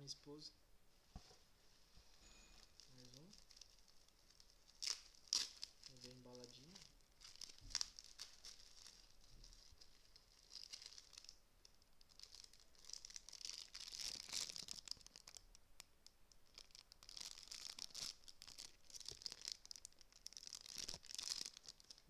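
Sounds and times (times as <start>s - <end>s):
plastic packaging crinkling and tearing: 2.6s - 15.6s, 16.3s - 22.0s.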